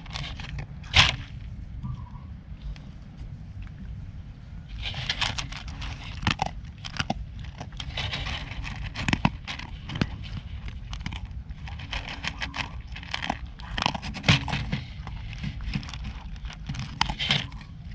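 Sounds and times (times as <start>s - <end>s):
pets crunching dry food: 0.0s - 1.7s, 4.6s - 17.9s.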